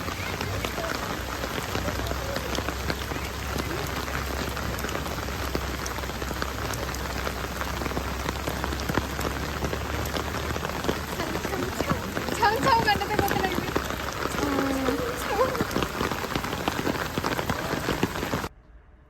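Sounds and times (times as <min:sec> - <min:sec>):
heavy rain falling: 0:00.0 - 0:18.5.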